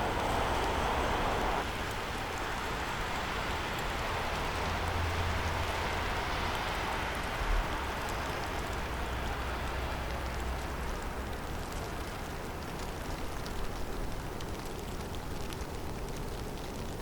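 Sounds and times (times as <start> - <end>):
wind and falling snow hiss: 0.0 - 17.0.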